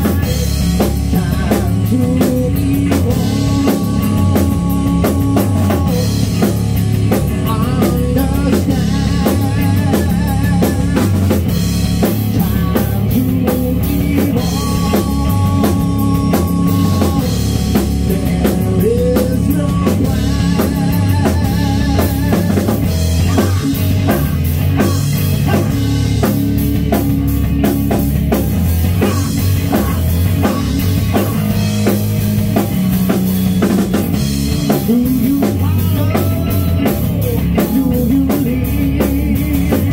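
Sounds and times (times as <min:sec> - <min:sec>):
man singing: 0:00.0 - 0:27.0, 0:29.0 - 0:32.0, 0:34.5 - 0:39.9
drum kit: 0:00.0 - 0:39.9
electric bass: 0:00.0 - 0:39.9
electric guitar: 0:00.0 - 0:39.9.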